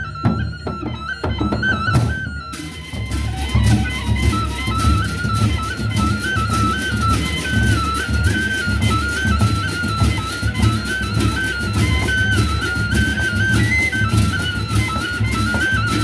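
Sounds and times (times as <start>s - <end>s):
bamboo flute melody: 0.0s - 16.0s
barrel drums beating: 0.0s - 16.0s.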